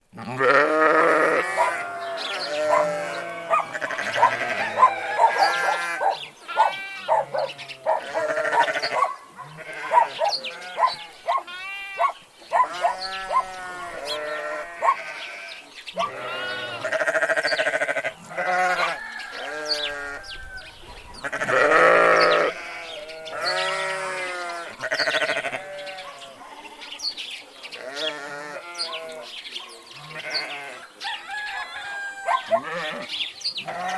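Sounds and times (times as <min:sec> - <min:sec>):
sheep bleating: 0:00.1 - 0:20.2, 0:21.2 - 0:27.0, 0:27.8 - 0:29.3, 0:30.0 - 0:30.9, 0:31.9 - 0:33.9.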